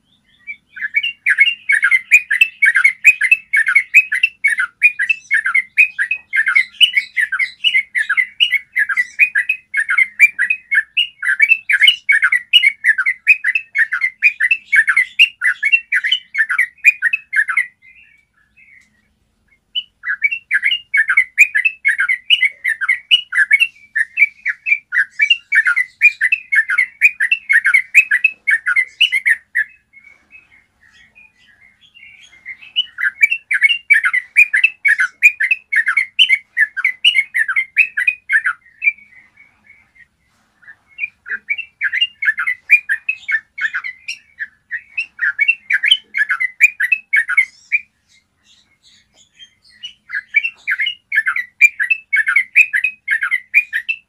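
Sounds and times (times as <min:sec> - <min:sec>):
bulbul chattering song: 0:00.0 - 0:54.0.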